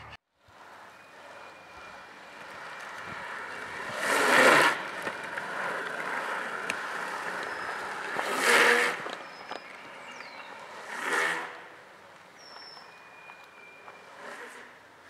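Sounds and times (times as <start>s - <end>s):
longboard wheels rolling on asphalt: 0.3s - 15.0s.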